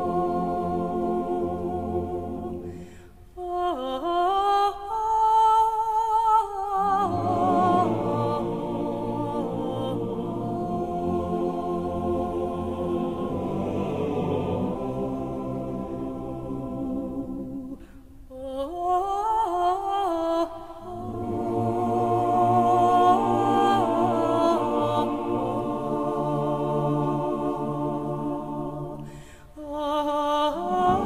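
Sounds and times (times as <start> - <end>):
choir chanting: 0.0 - 2.8, 6.3 - 17.8, 19.0 - 31.0
solo voice singing: 3.4 - 31.0.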